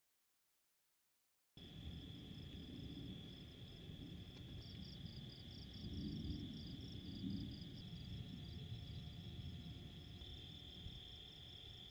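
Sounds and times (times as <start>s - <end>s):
insect pulsing chirp: 1.6s - 11.9s
insects trilling: 1.6s - 11.9s.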